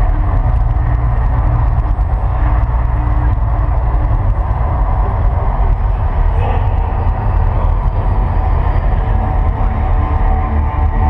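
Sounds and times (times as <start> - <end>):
deep rumbling roar of flames: 0.0 - 11.0.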